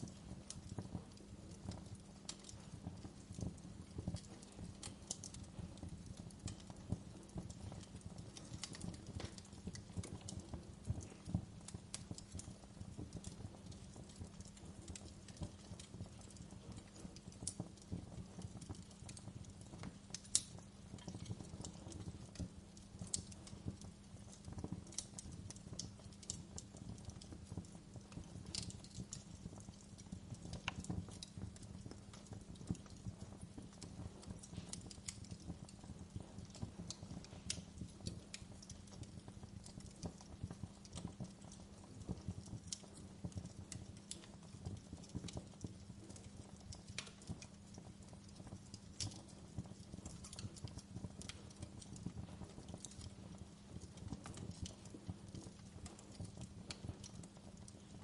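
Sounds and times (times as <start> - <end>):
burning logs crackling and popping: 0.0 - 58.0.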